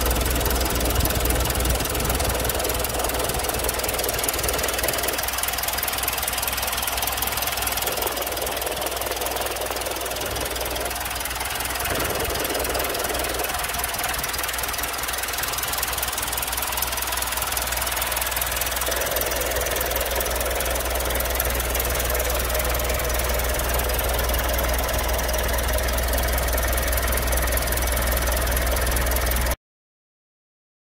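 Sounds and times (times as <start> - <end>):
diesel engine idling: 0.0 - 29.6.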